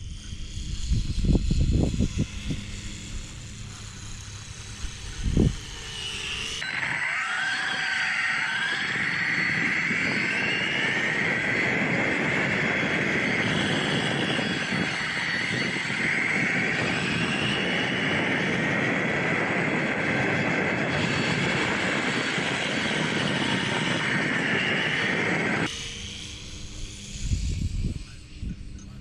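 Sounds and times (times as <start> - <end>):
electric motor whine: 0.0 - 29.0
steady rushing noise: 0.0 - 29.0.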